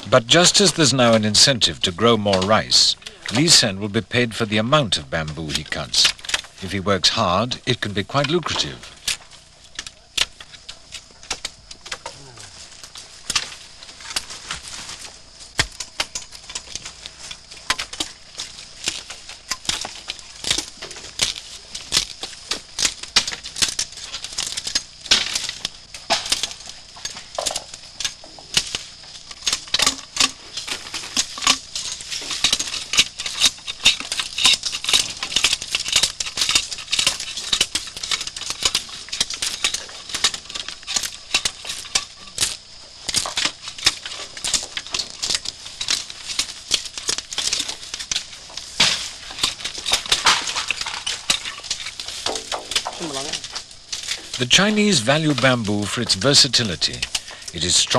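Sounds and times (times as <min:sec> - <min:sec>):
knives chopping bamboo: 0:05.0 - 0:57.9.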